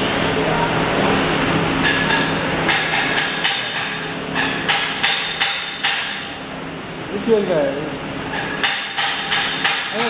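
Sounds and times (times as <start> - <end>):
workshop noise: 0.0 - 10.0.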